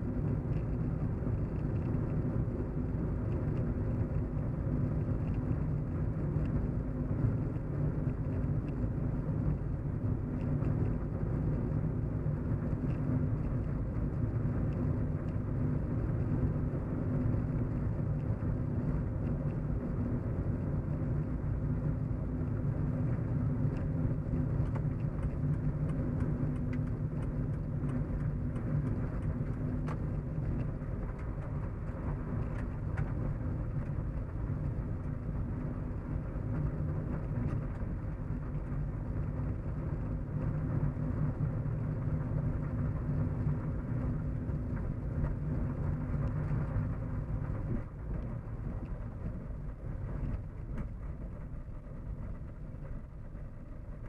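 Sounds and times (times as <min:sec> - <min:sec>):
car road hum and rumble: 0:00.0 - 0:54.0
faint steady drone: 0:00.0 - 0:54.0.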